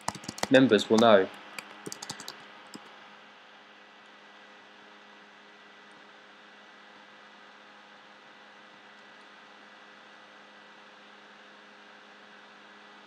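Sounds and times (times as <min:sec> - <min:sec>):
faint electrical hum and hiss: 0:00.0 - 0:13.0.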